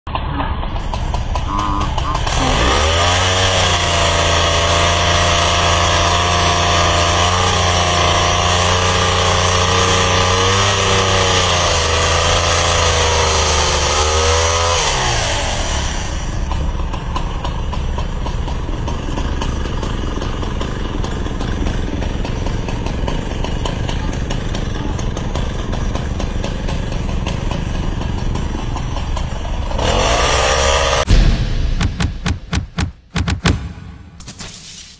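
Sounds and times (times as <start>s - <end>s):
small engine running: 0.6s - 31.1s.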